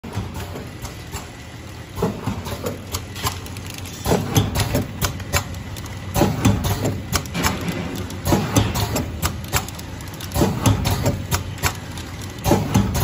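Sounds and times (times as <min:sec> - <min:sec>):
machine clattering knocks and clicks: 0:00.0 - 0:13.0.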